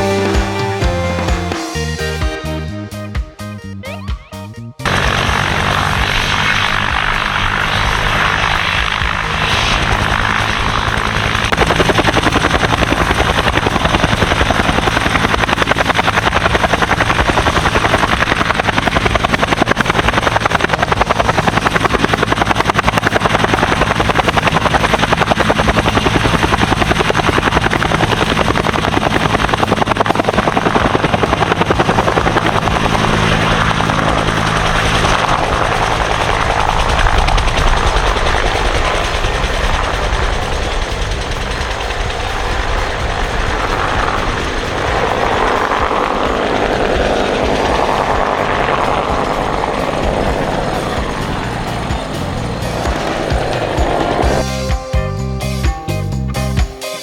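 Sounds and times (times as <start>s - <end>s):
helicopter rotor blades pulsing: 0.0s - 2.4s, 4.8s - 54.8s
helicopter turbine: 0.0s - 2.4s, 4.8s - 54.8s.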